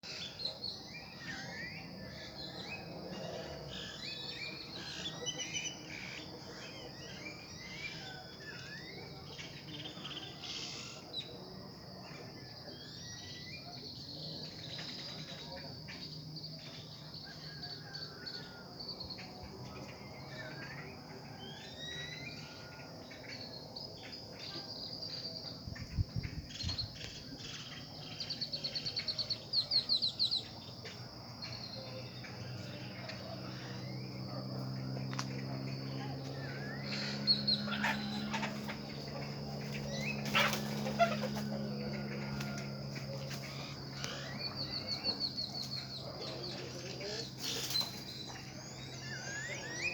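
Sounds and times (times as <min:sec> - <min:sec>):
birds chirping and calling: 0:00.0 - 0:49.9
crickets chirping: 0:00.0 - 0:49.9.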